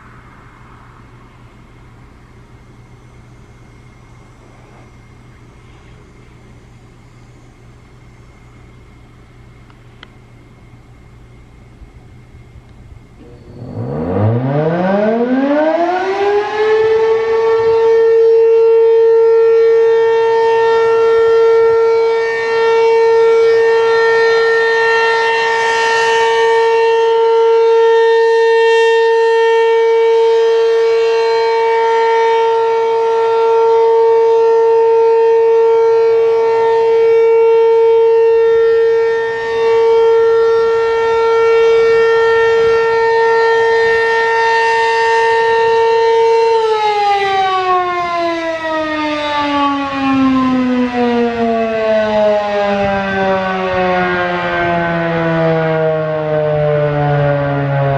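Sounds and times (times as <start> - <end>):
steady loud warning siren: 0.0 - 57.9.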